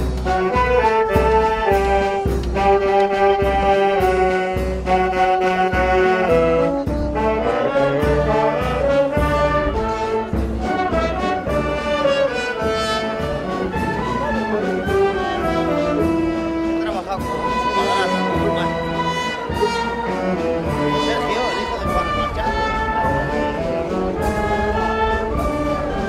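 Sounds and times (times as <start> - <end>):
bass drum beat: 0.0 - 26.0
wind band playing a hymn: 0.0 - 26.0.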